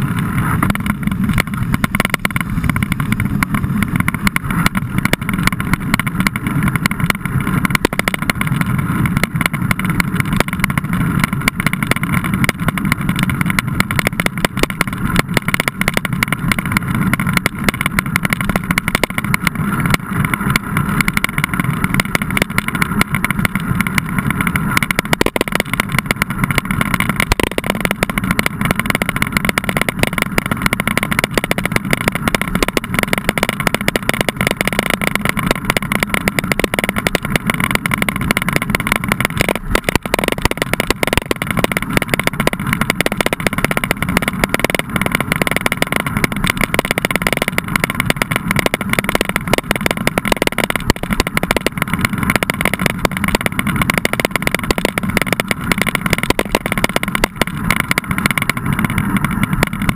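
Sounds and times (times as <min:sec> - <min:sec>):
bike rattling and knocking: 0:00.0 - 0:59.9
muffled rumble: 0:00.0 - 0:59.9.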